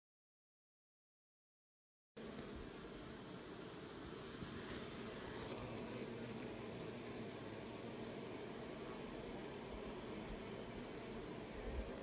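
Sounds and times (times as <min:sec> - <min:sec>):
honeybees humming: 0:02.2 - 0:12.0.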